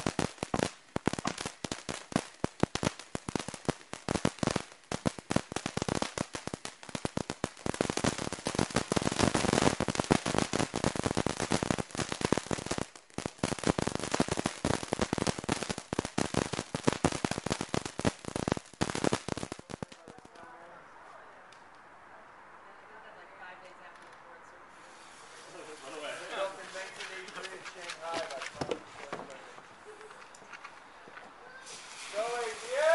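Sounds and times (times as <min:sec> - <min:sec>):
firework fountain crackling: 0:00.0 - 0:32.9.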